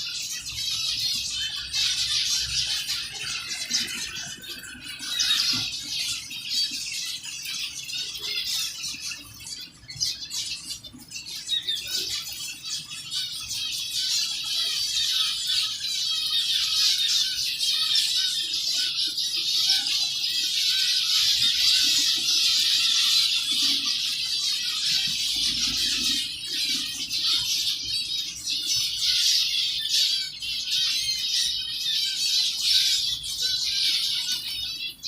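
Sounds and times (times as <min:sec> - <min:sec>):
zebra finches chirping: 0:00.0 - 0:35.0.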